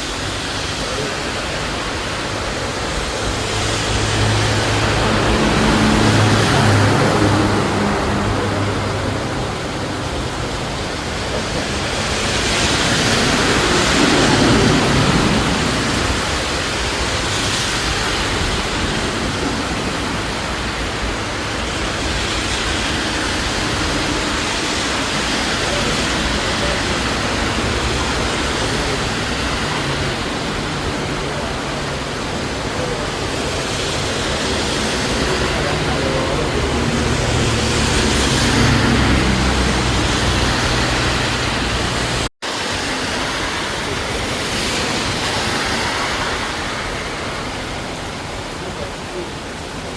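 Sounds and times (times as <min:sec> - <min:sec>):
rushing water: 0:00.0 - 0:49.9.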